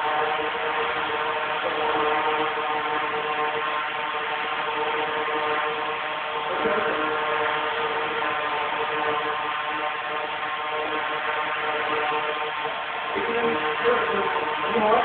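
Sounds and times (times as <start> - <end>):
quadcopter propellers whirring: 0.0 - 15.0.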